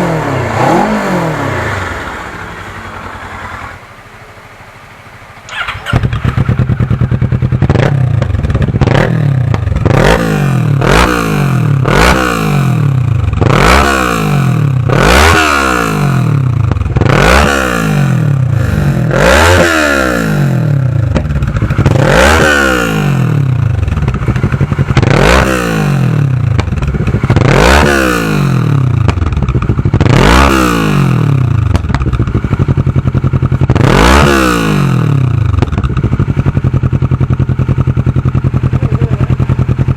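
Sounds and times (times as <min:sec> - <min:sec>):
motorcycle engine revving: 0:00.0 - 0:03.9, 0:05.4 - 0:39.9.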